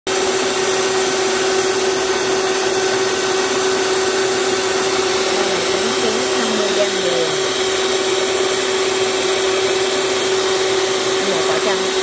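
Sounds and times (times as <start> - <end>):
hand mixer whipping egg whites: 0.1 - 12.0.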